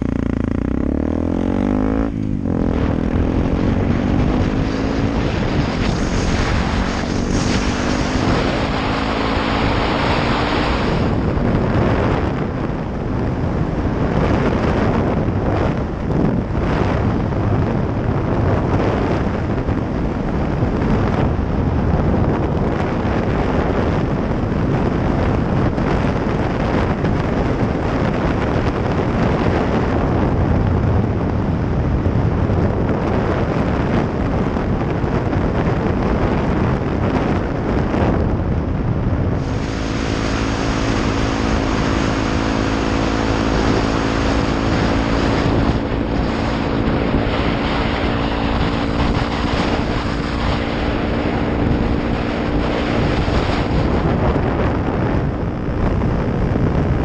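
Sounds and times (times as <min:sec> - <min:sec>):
motorcycle engine cruising: 0:00.0 - 0:57.0
wind rumble on microphone: 0:00.0 - 0:57.0.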